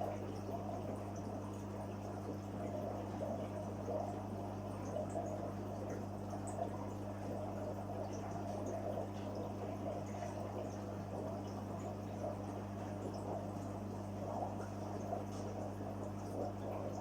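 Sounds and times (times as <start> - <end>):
faint water drips: 0.0 - 17.0
pump humming: 0.0 - 17.0
water bubbling and trickling: 0.0 - 17.0.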